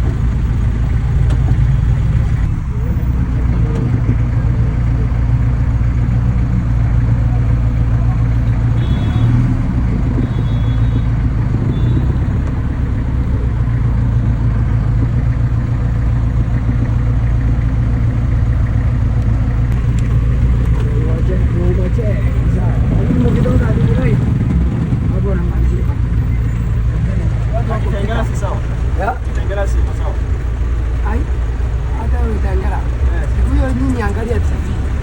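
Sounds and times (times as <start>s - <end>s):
vehicle engine and road drone: 0.0s - 35.0s.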